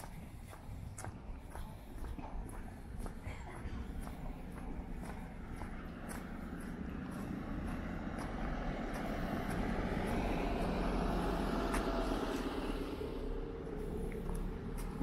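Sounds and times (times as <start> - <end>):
vehicle passing rumble: 0.0 - 15.0.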